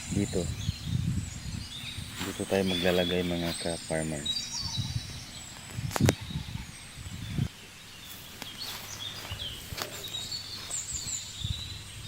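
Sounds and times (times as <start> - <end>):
outdoor ambience: 0.0 - 12.0
small birds chirping: 0.0 - 12.0.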